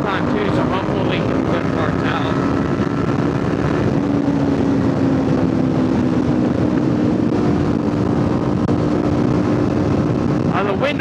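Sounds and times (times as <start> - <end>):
motorcycle engine cruising: 0.0 - 10.5
wind noise on microphone: 0.0 - 11.0.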